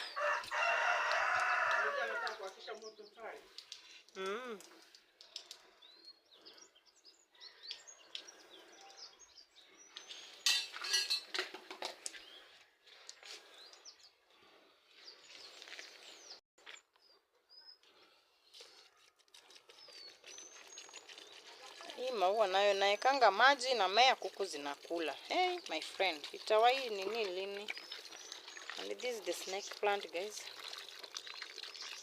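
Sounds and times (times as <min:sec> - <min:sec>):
small birds chirping: 0:00.0 - 0:11.1, 0:12.0 - 0:32.0.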